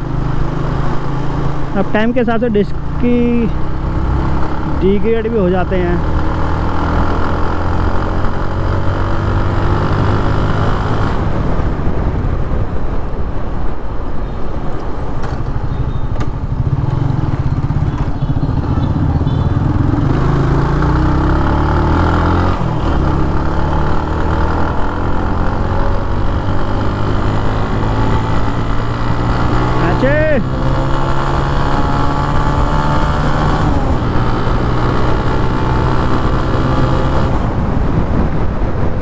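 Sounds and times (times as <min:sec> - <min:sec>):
motorcycle engine running: 0:00.0 - 0:11.9, 0:15.5 - 0:39.0.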